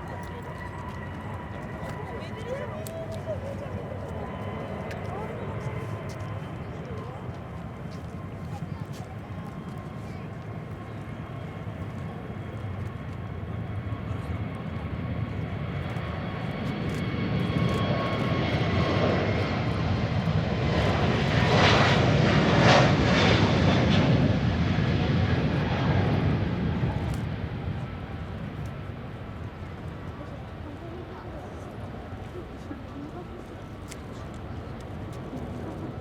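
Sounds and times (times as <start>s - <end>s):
jet airliner taking off: 0.0s - 36.0s.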